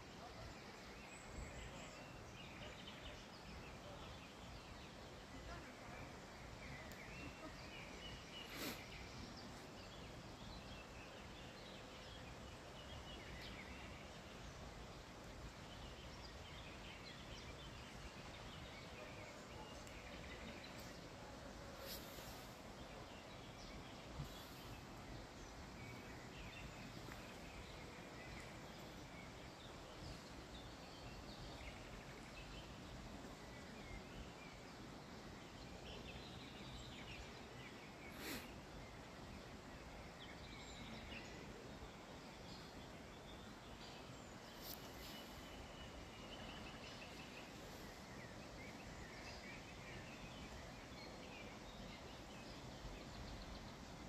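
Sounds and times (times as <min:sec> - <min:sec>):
faint bird chirps: 0:00.0 - 0:54.0
low hiss: 0:00.0 - 0:54.0.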